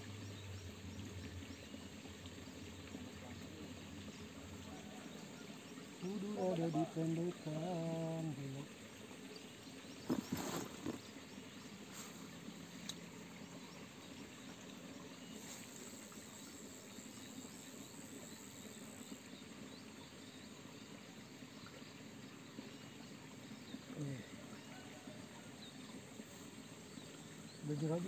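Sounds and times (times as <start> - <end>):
insect chirps: 0.0 - 24.9
steady low hiss: 0.0 - 28.0.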